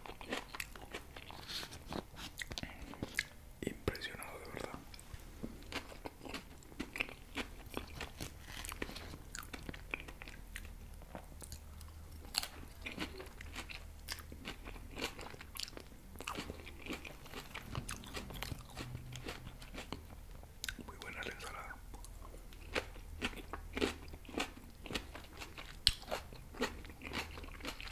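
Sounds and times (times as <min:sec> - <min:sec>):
chewing crunchy salad: 0:00.0 - 0:03.4, 0:04.0 - 0:27.9.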